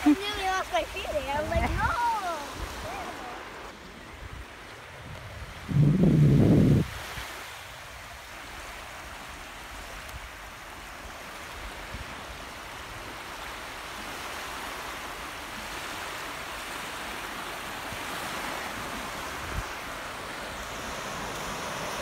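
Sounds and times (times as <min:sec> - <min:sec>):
small waves on sandy beach: 0:00.0 - 0:22.0.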